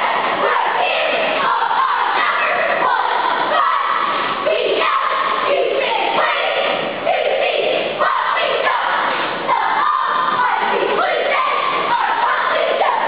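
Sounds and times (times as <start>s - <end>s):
girls chanting a cheer in unison: 0.0s - 13.0s.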